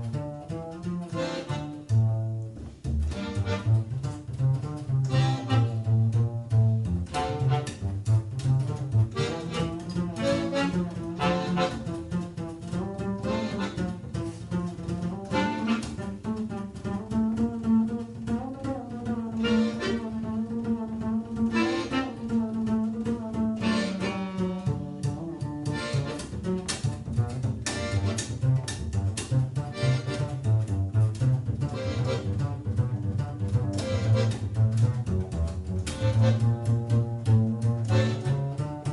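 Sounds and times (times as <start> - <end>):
bass line: 0.0 - 38.9.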